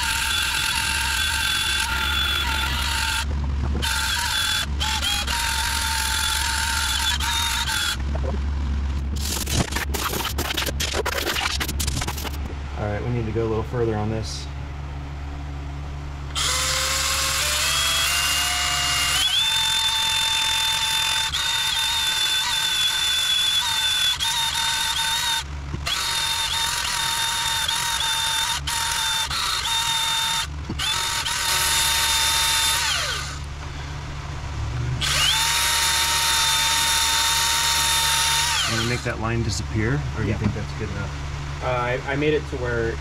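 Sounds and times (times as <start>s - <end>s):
belt sander whining: 0.0s - 12.5s, 16.3s - 41.9s.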